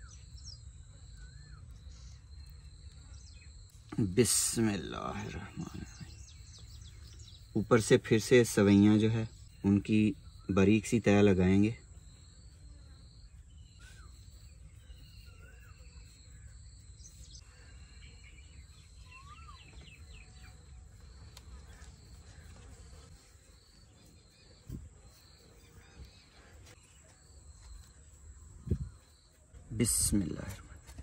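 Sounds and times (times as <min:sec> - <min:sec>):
faint bird chirps: 0:00.0 - 0:31.0
insect chirping: 0:00.0 - 0:31.0.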